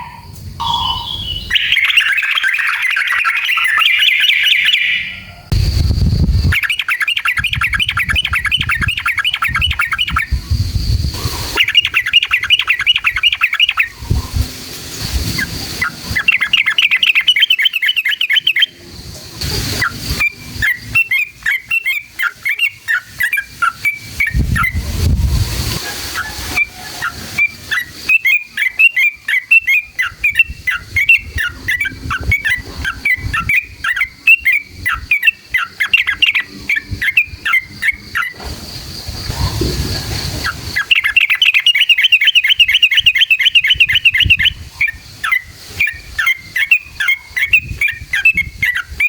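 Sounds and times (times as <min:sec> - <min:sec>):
bird singing bubbly chirps: 0:00.0 - 0:14.5, 0:15.3 - 0:18.8, 0:19.8 - 0:25.4, 0:26.2 - 0:38.4, 0:40.7 - 0:49.0.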